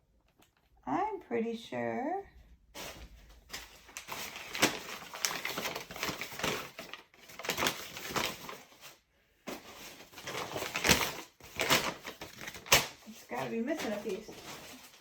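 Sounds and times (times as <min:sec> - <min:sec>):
plastic packaging rustling: 0:02.8 - 0:15.0.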